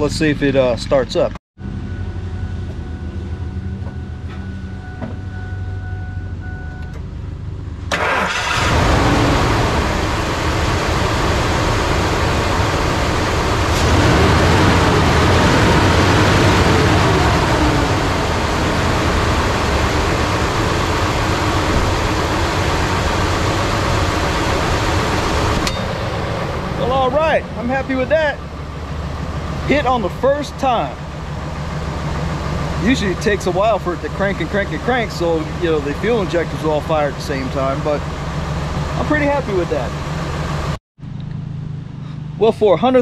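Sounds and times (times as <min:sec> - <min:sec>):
truck engine cranking and running: 0:01.9 - 0:41.9.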